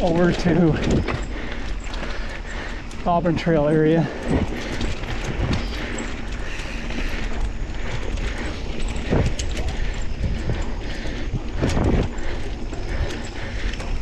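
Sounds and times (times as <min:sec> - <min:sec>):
bike clicking and rattling: 0:00.0 - 0:14.0
wind and tyre rumble: 0:00.0 - 0:14.0.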